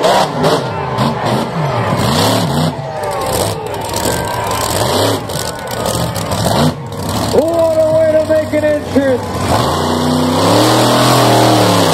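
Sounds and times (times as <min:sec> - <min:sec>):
monster truck engine revving: 0:00.0 - 0:11.9.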